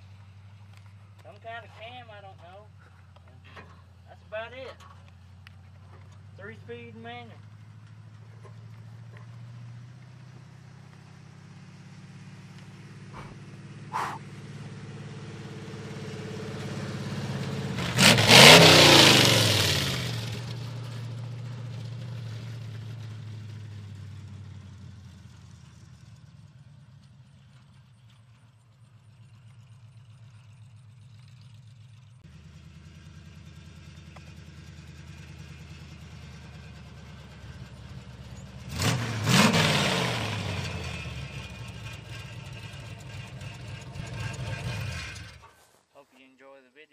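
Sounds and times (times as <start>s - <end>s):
truck engine idling and revving: 0.0s - 45.7s.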